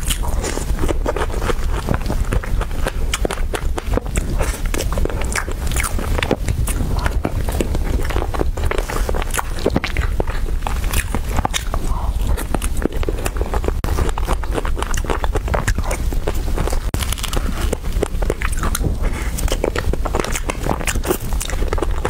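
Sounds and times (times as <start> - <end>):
person chewing wetly: 0.0 - 22.0.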